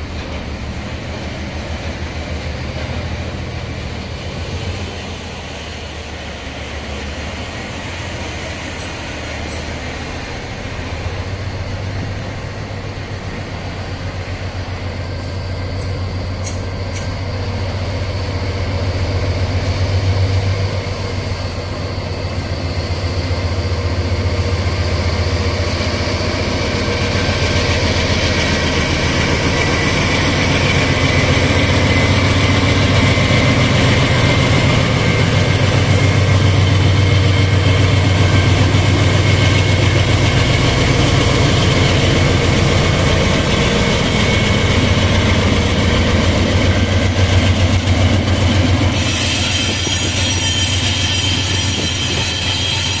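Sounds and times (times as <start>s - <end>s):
locomotive engine droning: 0.0s - 53.0s
high wheel squeal: 10.3s - 53.0s.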